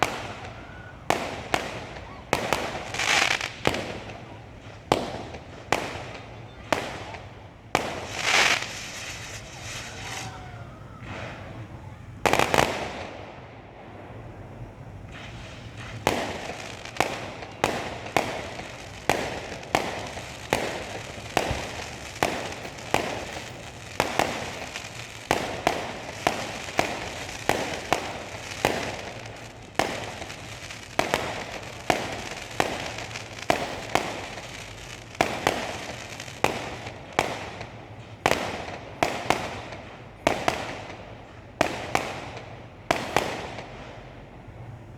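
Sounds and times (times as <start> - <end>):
fireworks bangs: 0.0 - 44.9
fireworks crackle: 0.0 - 44.9.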